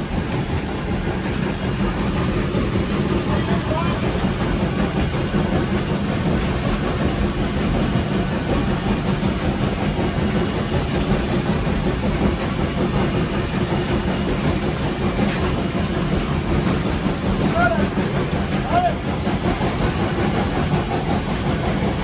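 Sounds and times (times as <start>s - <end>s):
steam locomotive running: 0.0s - 22.0s.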